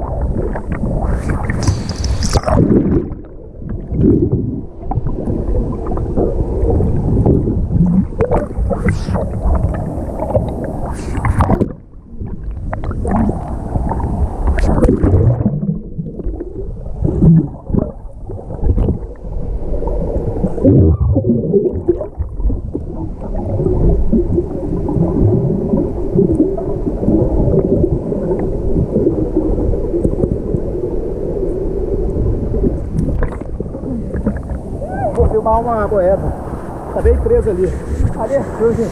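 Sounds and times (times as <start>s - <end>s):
muffled waterfall underwater: 0.0s - 38.9s.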